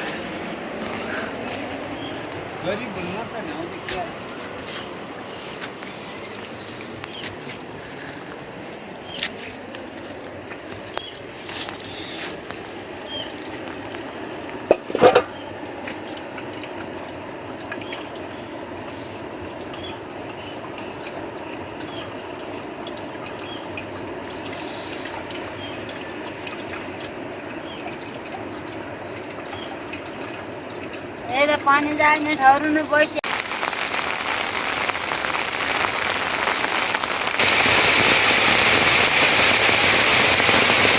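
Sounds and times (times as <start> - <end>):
rain falling: 0.0 - 40.9
water dripping: 0.0 - 40.9.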